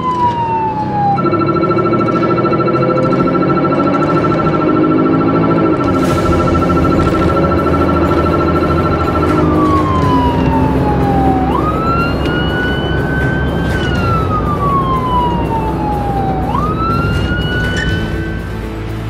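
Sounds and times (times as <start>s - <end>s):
electronic police siren: 0.0s - 19.0s
road noise: 0.0s - 19.0s.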